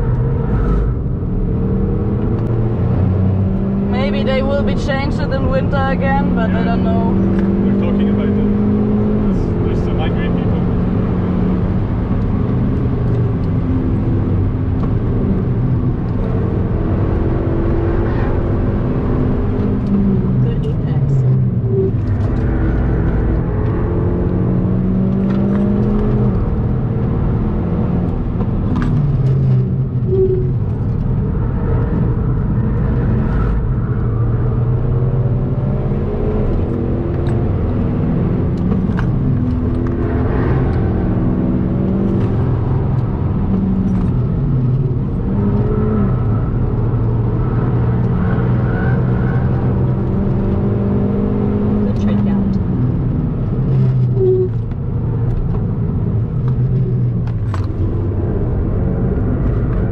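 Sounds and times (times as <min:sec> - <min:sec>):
car engine revving through gears: 0:00.0 - 0:59.9
road and tyre noise: 0:00.0 - 0:59.9.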